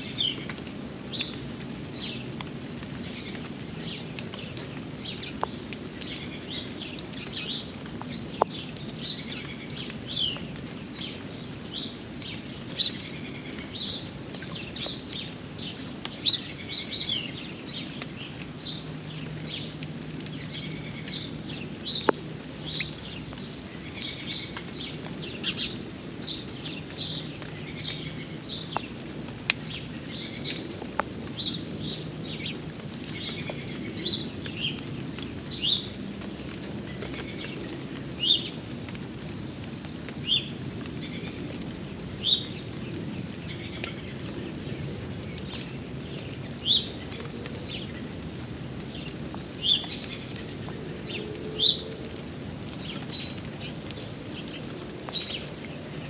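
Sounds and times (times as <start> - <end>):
songbirds chirping: 0.0 - 56.0
steady rain: 0.0 - 56.0.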